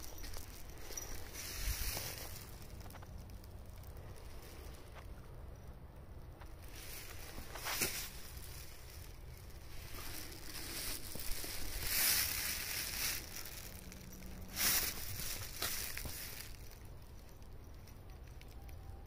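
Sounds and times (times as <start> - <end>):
steady low rumble: 0.0 - 18.2.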